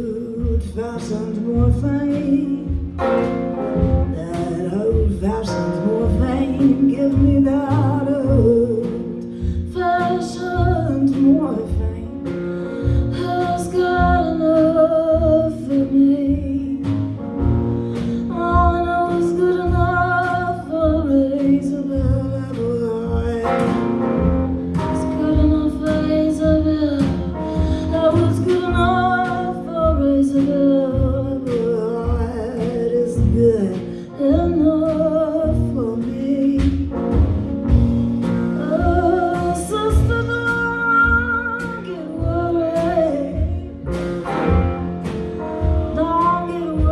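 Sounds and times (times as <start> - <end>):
low bass notes: 0.0 - 46.9.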